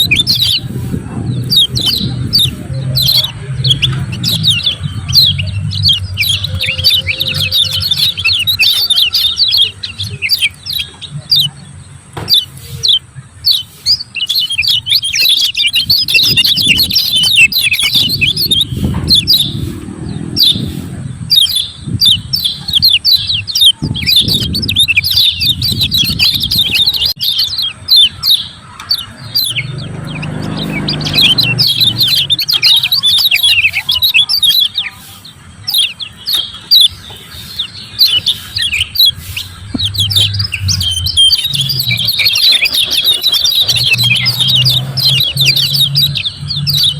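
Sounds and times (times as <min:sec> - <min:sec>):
birds chirping sharply: 0:00.0 - 0:46.9.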